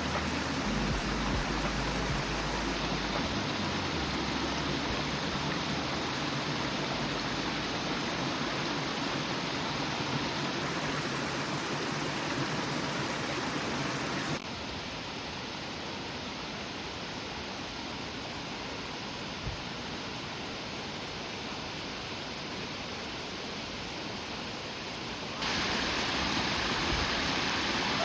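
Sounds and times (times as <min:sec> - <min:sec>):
falling water rushing: 0:00.0 - 0:17.4, 0:18.2 - 0:28.0.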